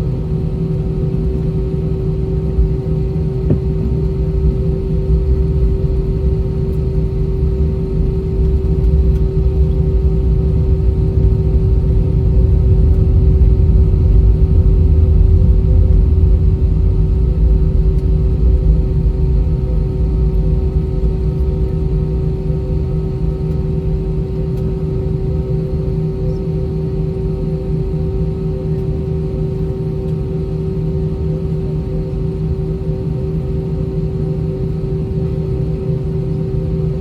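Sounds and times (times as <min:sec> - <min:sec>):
jet engines idling in cabin: 0:00.0 - 0:37.0.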